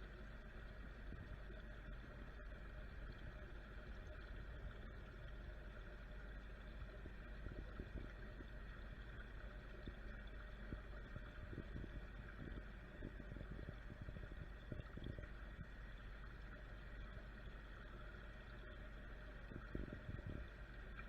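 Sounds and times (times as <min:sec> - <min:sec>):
faint water gurgling: 0:00.0 - 0:21.0
water pump hum: 0:00.0 - 0:21.0.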